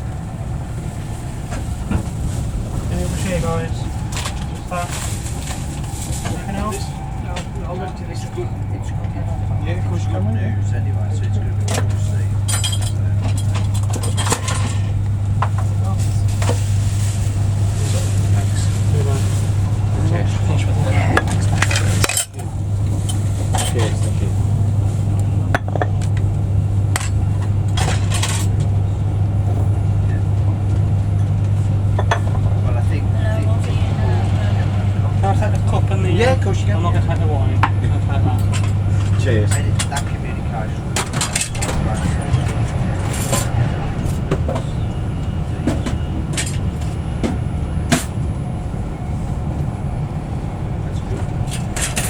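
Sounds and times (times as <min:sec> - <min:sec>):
electric train rumble inside carriage: 0:00.0 - 0:52.0.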